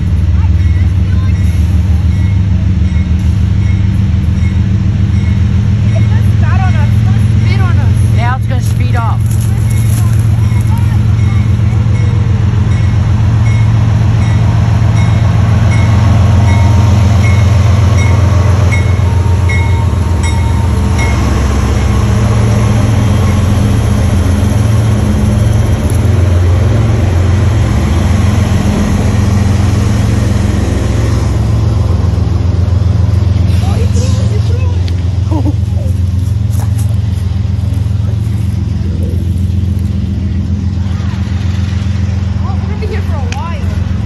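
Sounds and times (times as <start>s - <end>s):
locomotive engine rumble: 0.0s - 44.0s
train wheels rolling on rails: 0.0s - 44.0s.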